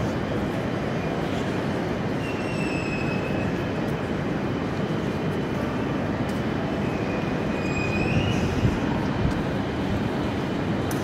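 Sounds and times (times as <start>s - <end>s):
low rumble of trains: 0.0s - 11.0s.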